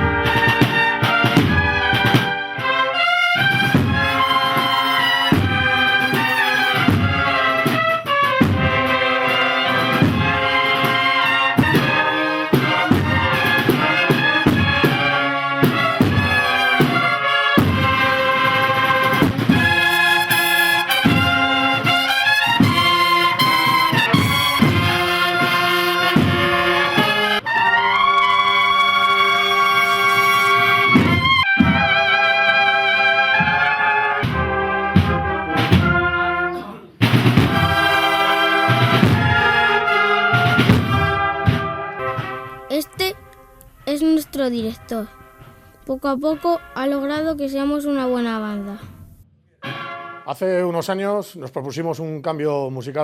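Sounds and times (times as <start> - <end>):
regular drum beat: 0.0 - 27.4, 30.0 - 49.2
cornets playing a march melody: 0.0 - 48.2, 49.6 - 51.1.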